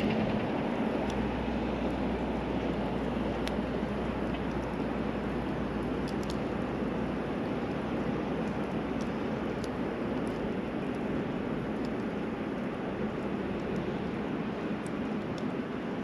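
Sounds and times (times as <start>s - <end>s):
steady rushing noise: 0.0s - 16.0s
wood fire crackling: 0.0s - 16.0s.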